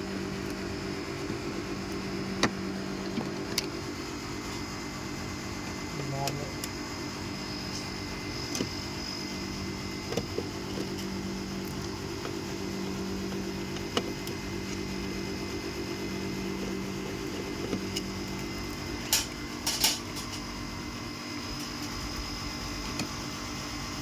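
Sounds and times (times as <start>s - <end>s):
air conditioning hum: 0.0s - 24.0s.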